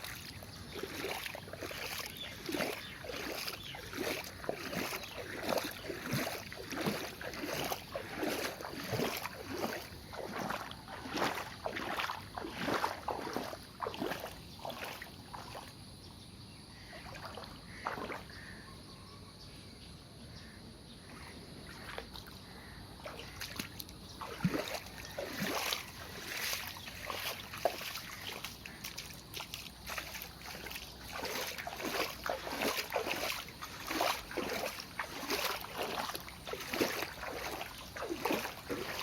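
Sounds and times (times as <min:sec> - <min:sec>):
water splashing and sloshing: 0:00.0 - 0:16.0, 0:16.8 - 0:18.5, 0:21.0 - 0:39.0.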